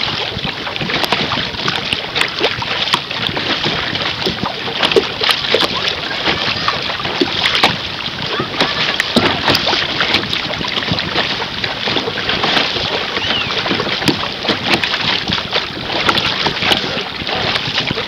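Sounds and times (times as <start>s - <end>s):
water slapping against canoe: 0.0s - 18.0s
wind buffeting microphone: 0.0s - 18.0s.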